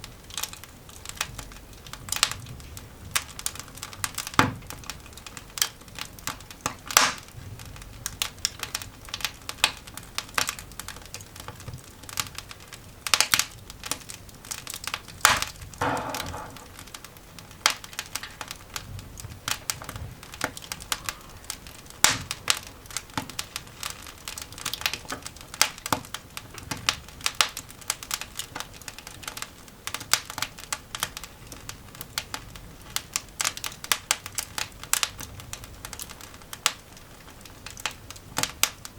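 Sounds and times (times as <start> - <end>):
coal fire crackling and popping: 0.0 - 38.9.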